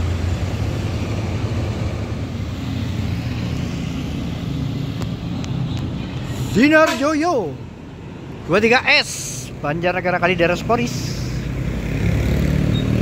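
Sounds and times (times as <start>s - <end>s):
bus diesel engine drone: 0.0s - 13.0s
road noise: 0.0s - 13.0s.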